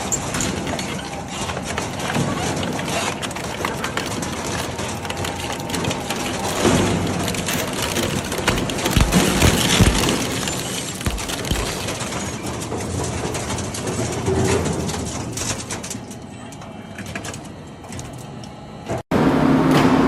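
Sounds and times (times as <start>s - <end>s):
shredder grinding scrap metal: 0.0s - 16.2s.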